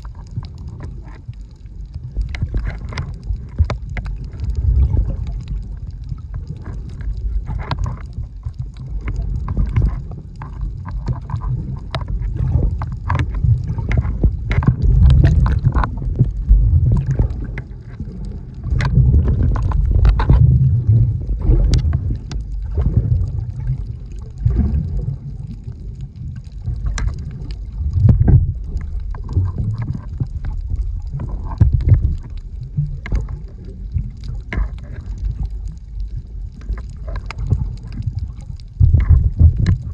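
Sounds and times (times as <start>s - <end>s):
sharp clicks and crackles: 0.0s - 39.9s
underwater water sloshing: 0.0s - 39.9s.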